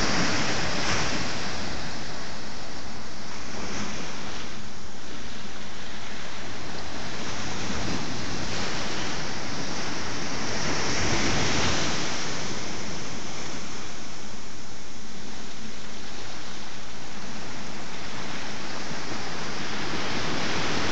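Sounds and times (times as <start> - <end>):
sea waves washing against rocks: 0.0 - 20.9.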